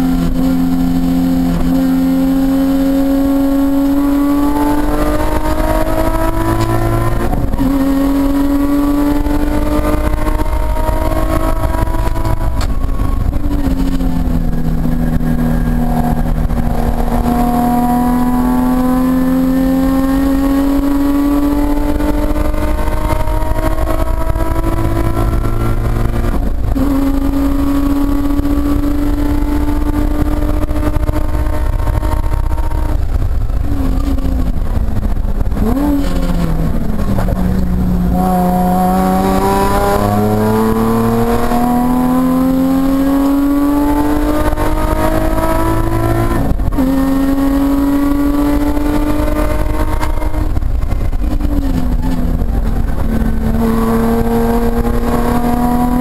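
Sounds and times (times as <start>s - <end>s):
engine throttle blips: 0.0s - 56.0s
race car engine driven hard: 0.0s - 56.0s.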